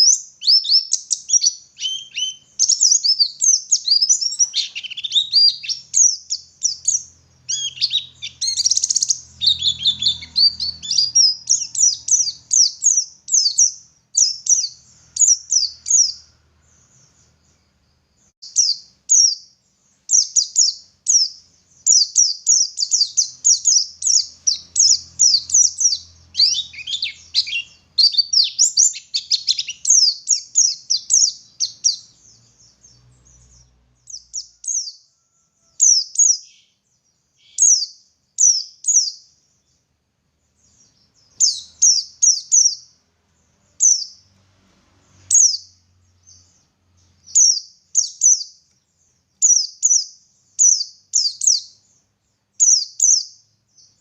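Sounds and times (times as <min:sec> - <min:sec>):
bird twittering song: 0:00.0 - 0:44.4, 0:45.0 - 0:54.0.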